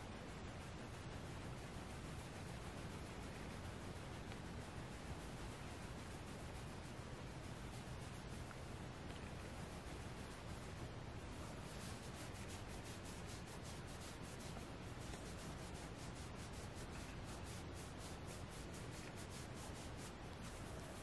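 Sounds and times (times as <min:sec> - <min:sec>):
fingers scratching plush fabric: 0:00.0 - 0:21.0.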